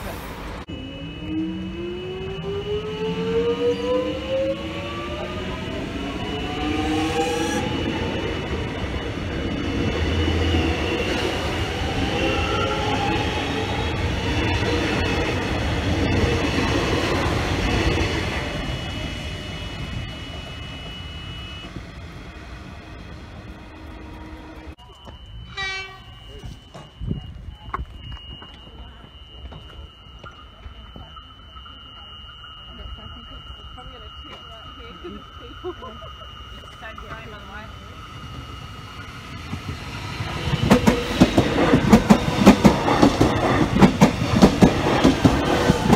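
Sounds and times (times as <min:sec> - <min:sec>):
carriages rumbling on rails: 0:00.0 - 0:45.9
train traction motors whining: 0:00.1 - 0:45.9
steady high-pitched tone: 0:00.6 - 0:45.9.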